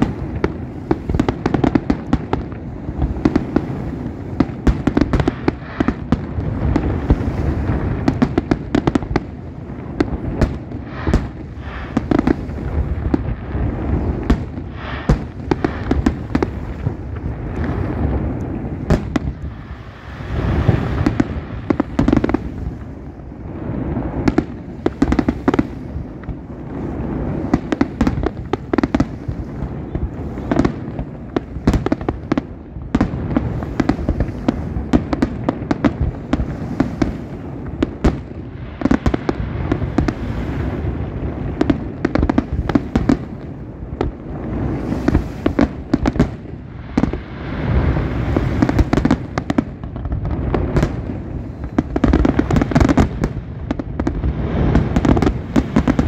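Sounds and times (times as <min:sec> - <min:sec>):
continuous low rumble: 0:00.0 - 0:56.0.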